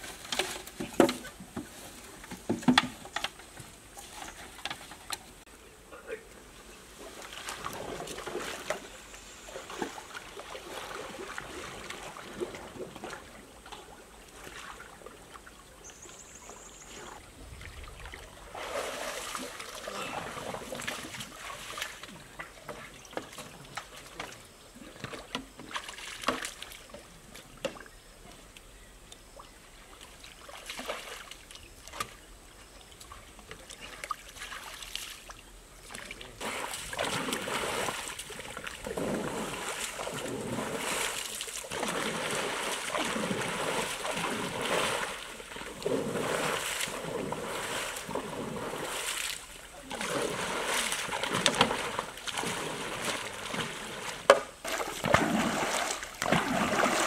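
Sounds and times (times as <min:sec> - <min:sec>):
water sloshing and splashing: 0:07.0 - 0:15.8, 0:16.9 - 0:27.9, 0:29.4 - 0:57.0.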